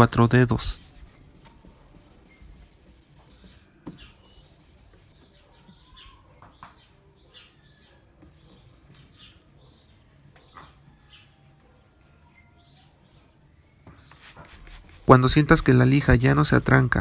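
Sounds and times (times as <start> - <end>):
small birds chirping faintly: 0.1 - 17.0.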